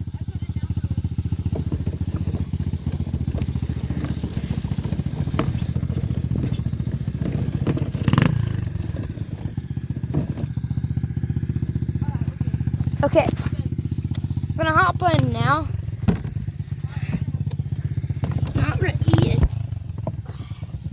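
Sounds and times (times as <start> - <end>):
dirt bike engine idling: 0.0 - 20.9.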